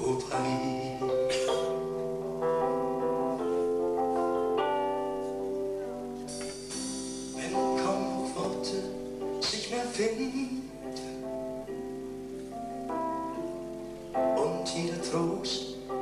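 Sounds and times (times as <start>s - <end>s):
band playing sustained chords: 0.0s - 16.0s
plucked guitar notes: 0.0s - 16.0s.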